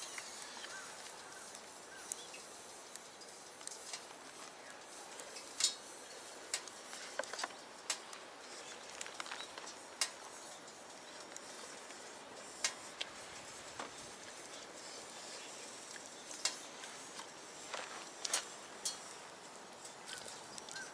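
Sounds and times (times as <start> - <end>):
faint steady hiss: 0.0 - 20.9
wood fire crackling: 0.0 - 20.9.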